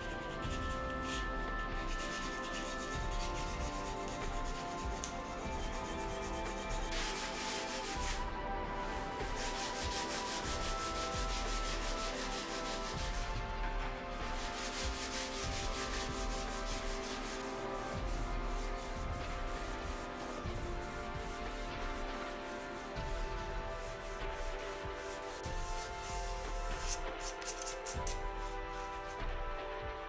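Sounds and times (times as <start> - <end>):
sandpaper rubbing on metal: 0.0 - 29.3.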